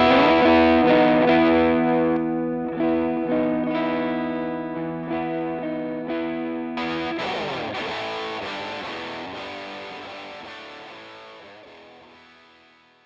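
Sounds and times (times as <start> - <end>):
distorted electric guitar chords: 0.0 - 13.0.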